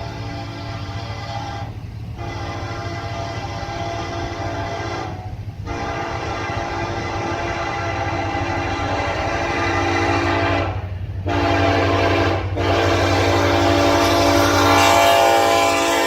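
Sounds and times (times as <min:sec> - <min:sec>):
locomotive air horn blasts: 0:00.0 - 0:16.0
train rumble: 0:00.0 - 0:16.0.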